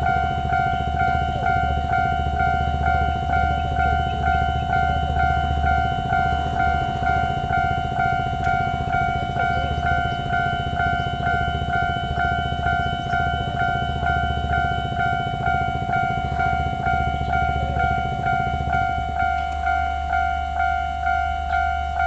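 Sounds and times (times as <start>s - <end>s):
crossing bell two-tone ding: 0.0s - 22.0s.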